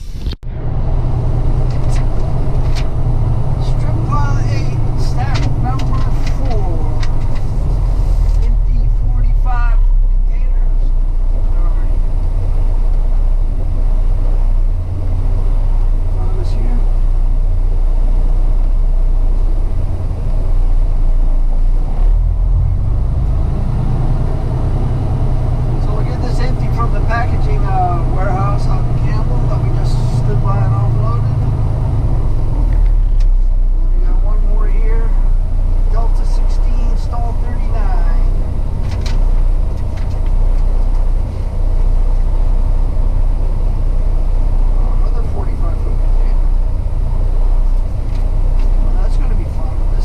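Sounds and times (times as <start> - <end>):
truck diesel engine and road noise: 0.0 - 50.0.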